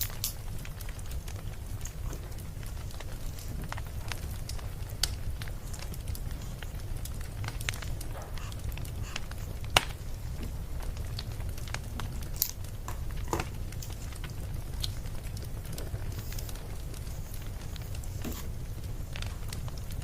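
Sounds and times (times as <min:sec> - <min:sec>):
firewood crackling and popping: 0:00.0 - 0:20.0
low rumble of fire: 0:00.0 - 0:20.0.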